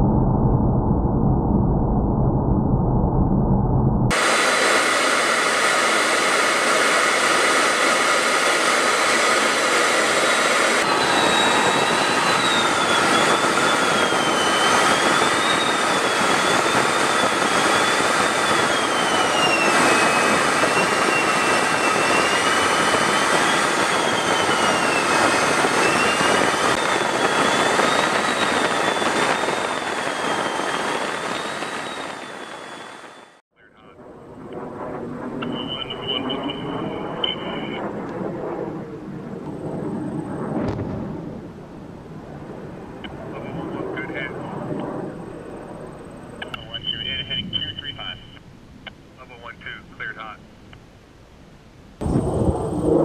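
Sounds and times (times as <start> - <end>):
jet engine in flight: 0.0 - 53.0.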